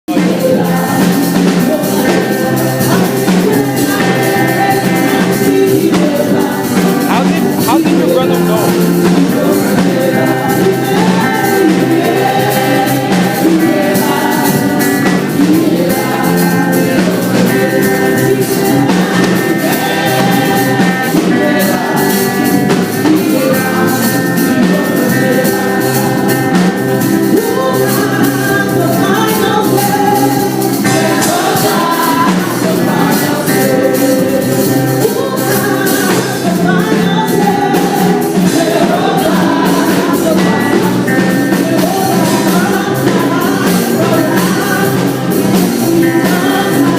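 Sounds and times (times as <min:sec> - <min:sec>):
band playing worship music: 0:00.0 - 0:46.9
group of voices singing: 0:00.0 - 0:46.9.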